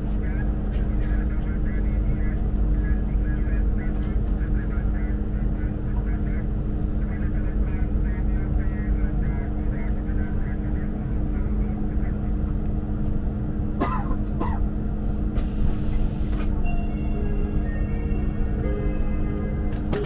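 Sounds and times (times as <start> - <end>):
train interior rumble: 0.0 - 20.0.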